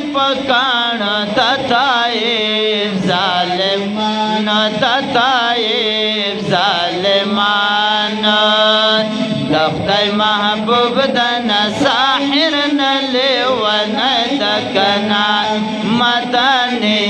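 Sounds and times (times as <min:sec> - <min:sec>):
men chanting into microphones: 0:00.0 - 0:17.0.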